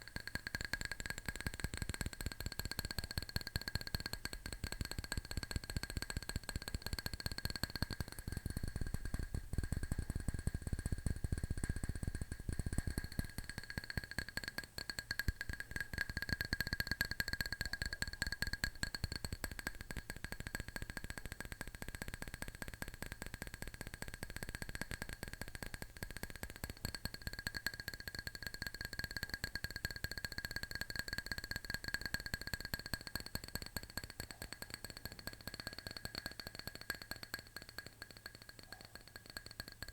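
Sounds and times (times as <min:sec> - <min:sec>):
fingernail tapping on hard object: 0:00.0 - 0:39.9.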